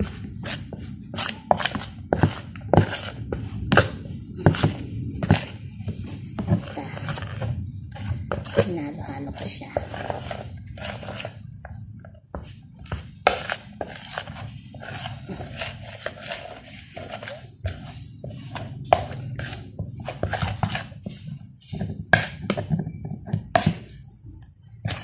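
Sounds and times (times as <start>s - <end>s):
metal spoon scraping plastic bowl: 0.0s - 25.0s.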